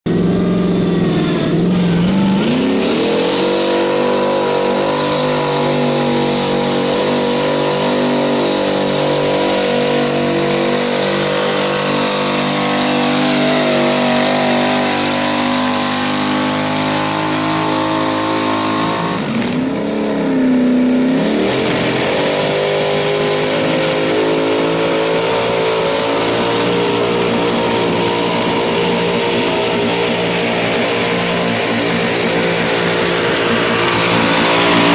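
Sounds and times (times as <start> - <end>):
tractor engine revving: 0.0 - 34.9.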